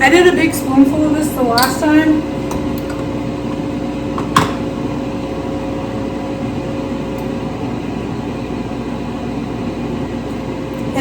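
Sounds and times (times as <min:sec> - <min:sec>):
kitchen appliance fan hum: 0:00.0 - 0:11.0.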